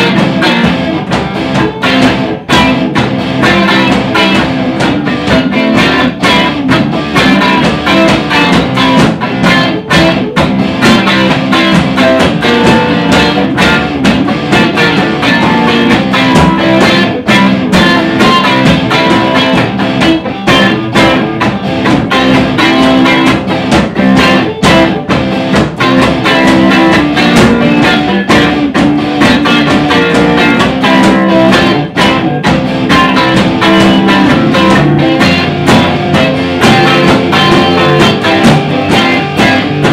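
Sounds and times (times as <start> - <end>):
soul blues band music: 0.0 - 39.9.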